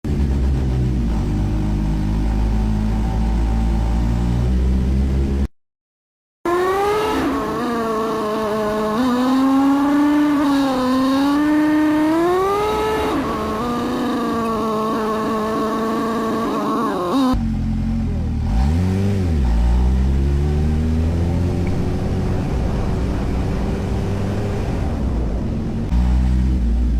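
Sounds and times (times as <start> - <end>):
motorcycle engine revving: 0.1 - 5.5, 6.5 - 26.9.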